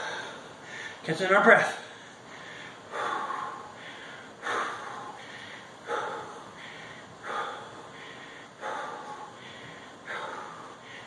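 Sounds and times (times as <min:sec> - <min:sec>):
man breathing hard: 0:00.0 - 0:01.0, 0:01.7 - 0:11.0.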